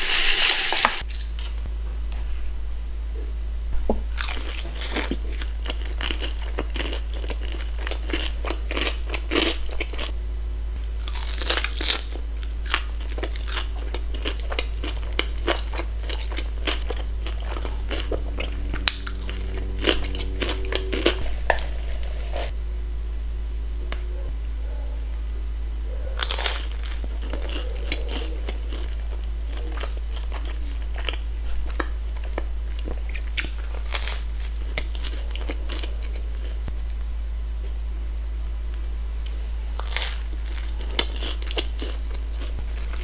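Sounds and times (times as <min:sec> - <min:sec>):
biting and chewing crispy food: 0:00.0 - 0:02.3, 0:04.1 - 0:10.2, 0:10.8 - 0:22.5, 0:26.2 - 0:37.8, 0:39.2 - 0:43.0
low hum: 0:00.0 - 0:43.0.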